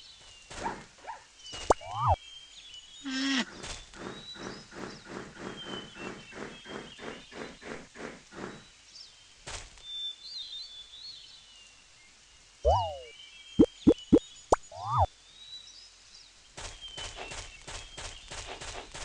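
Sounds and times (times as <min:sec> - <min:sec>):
birds chirping: 0:00.0 - 0:09.4, 0:10.1 - 0:19.0.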